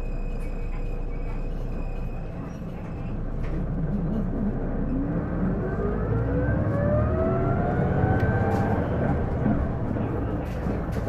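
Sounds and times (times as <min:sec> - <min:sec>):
bus engine accelerating: 0:00.0 - 0:11.0.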